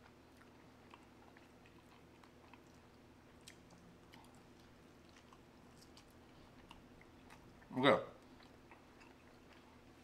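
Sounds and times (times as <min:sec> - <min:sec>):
chewing mouth clicks: 0:00.0 - 0:10.0
low steady hum: 0:00.0 - 0:10.0.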